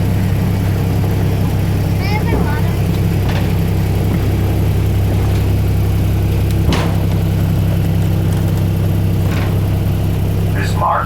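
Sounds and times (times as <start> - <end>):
train engine droning: 0.0 - 11.0.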